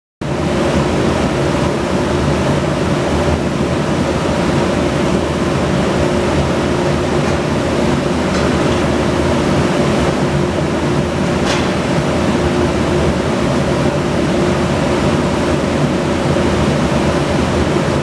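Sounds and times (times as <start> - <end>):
circular saw machine humming: 0.8 - 18.0.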